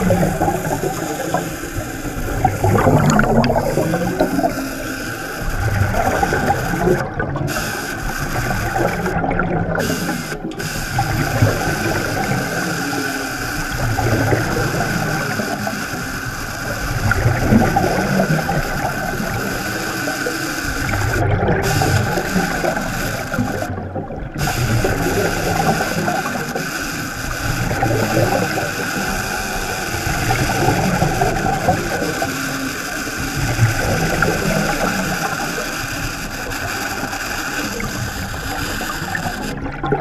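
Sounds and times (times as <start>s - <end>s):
bubbling surges: 0.0s - 40.0s
underwater machinery whine and rumble: 0.0s - 40.0s.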